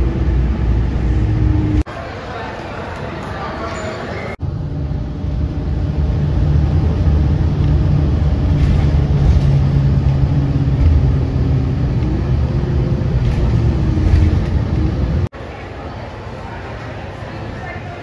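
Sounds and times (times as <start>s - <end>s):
low engine drone: 0.0s - 1.9s, 4.3s - 17.6s.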